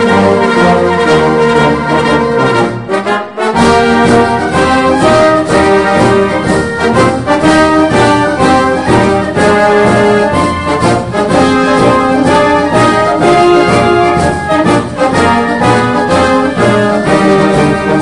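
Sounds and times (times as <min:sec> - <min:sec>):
orchestral brass chords: 0:00.0 - 0:18.0.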